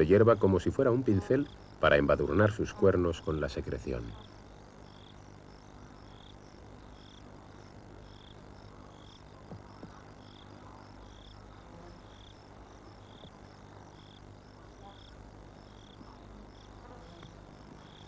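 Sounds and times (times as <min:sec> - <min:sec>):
insect chirping faintly: 0:00.0 - 0:18.0
low steady background hum: 0:00.0 - 0:18.0.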